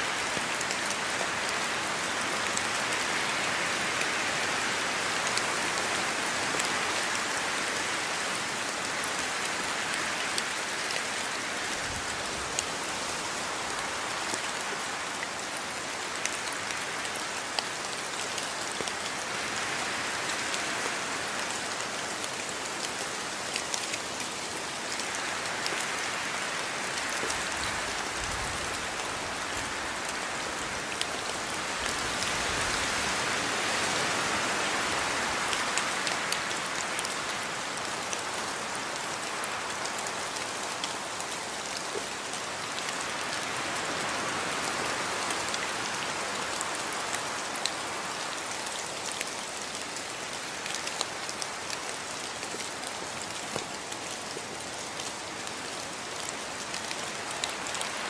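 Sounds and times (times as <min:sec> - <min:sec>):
raindrops ticking on surfaces: 0:00.0 - 0:58.0
steady rain hiss: 0:00.0 - 0:58.0.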